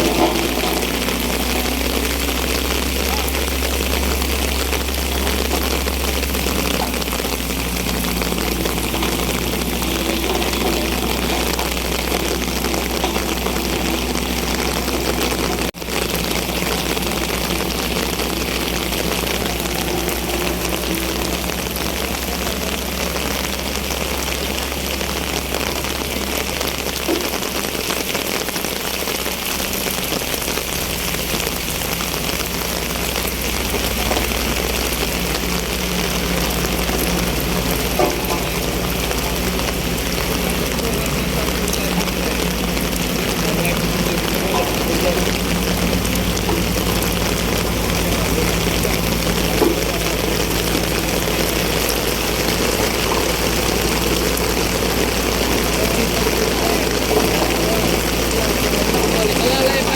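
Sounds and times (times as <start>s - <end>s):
engine low rumble: 0.0s - 59.9s
heavy rain hissing: 0.0s - 59.9s.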